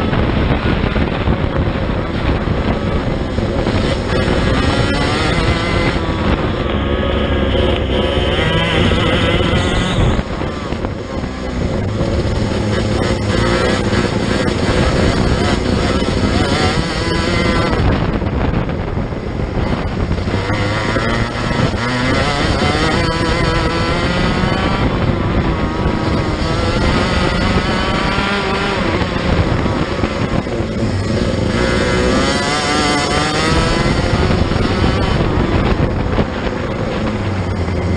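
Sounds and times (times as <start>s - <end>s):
kart engine revving: 0.0s - 37.9s.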